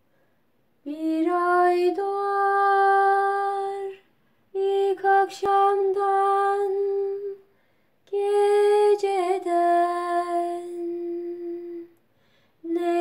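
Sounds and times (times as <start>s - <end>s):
woman singing unaccompanied: 0.8s - 7.4s, 8.1s - 12.0s, 12.6s - 13.0s.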